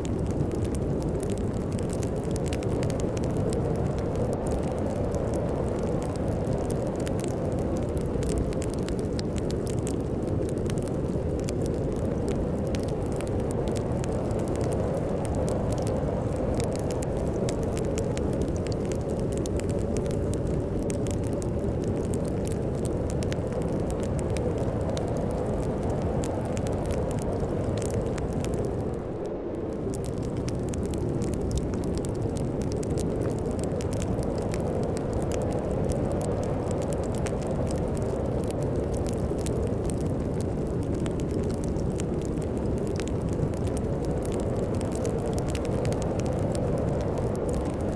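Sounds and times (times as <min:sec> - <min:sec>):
fireplace crackling and popping: 0:00.0 - 0:47.9
low rumble of storm wind: 0:00.0 - 0:47.9.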